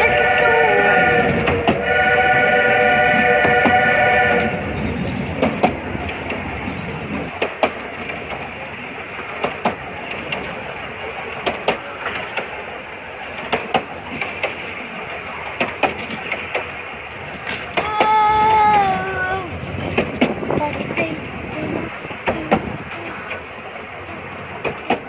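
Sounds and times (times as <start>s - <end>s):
rumble of wheels on rail: 0.0s - 25.0s
wheels clicking over rail joints: 1.2s - 1.9s, 3.3s - 25.0s.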